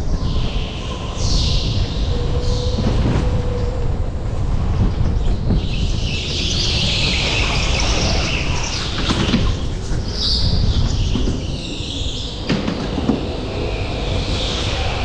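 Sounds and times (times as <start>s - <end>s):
wind buffeting: 0.0s - 15.0s.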